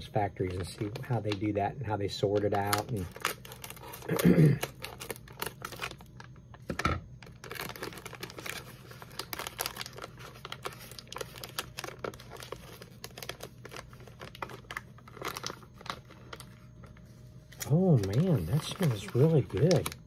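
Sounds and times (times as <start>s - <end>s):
snack bag crinkling: 2.2s - 20.0s.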